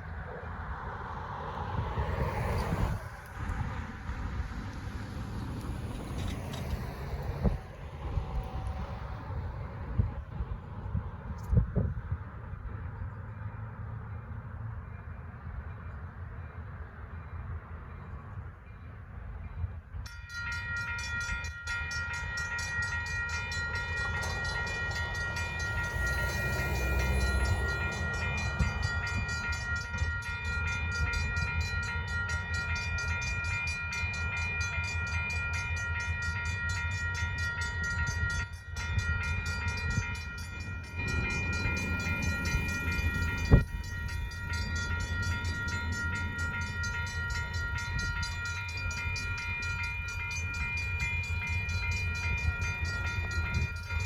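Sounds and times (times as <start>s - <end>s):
diesel locomotives rumbling: 0.0s - 54.0s
crossing bell ringing: 5.2s - 10.1s, 13.0s - 54.0s.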